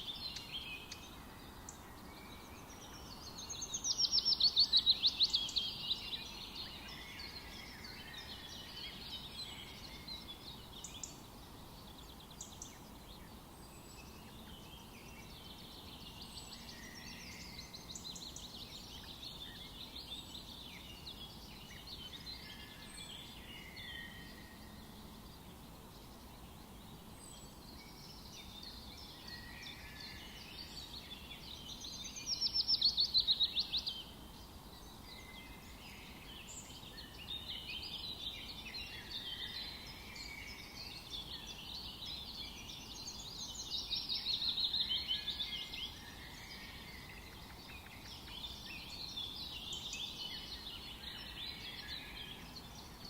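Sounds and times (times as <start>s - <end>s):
birds singing: 0.0s - 53.0s
faint background hiss: 0.0s - 53.0s.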